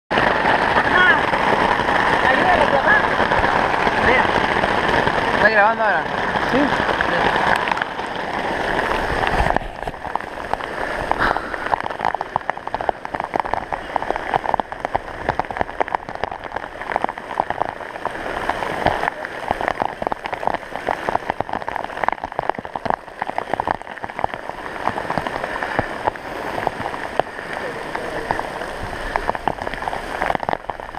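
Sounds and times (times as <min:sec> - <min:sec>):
heavy rain falling: 0:00.1 - 0:30.9.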